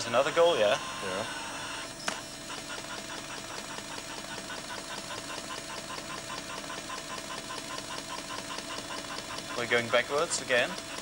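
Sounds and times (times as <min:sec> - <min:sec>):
videotape machine ticking: 0:00.0 - 0:11.0.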